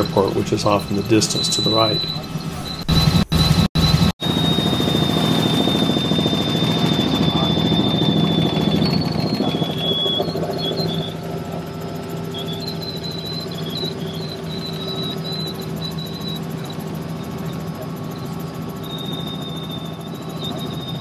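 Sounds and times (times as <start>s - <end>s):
helicopter rotor and engine drone: 0.0s - 21.0s
high-pitched whine: 0.0s - 21.0s.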